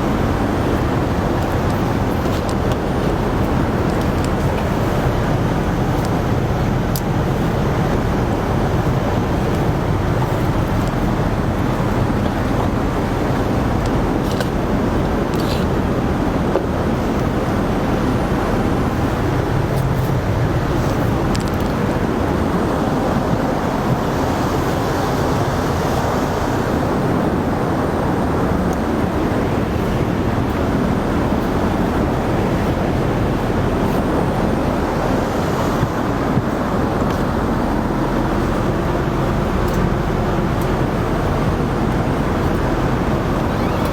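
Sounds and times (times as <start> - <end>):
airplane cabin engine rush: 0.0 - 43.9.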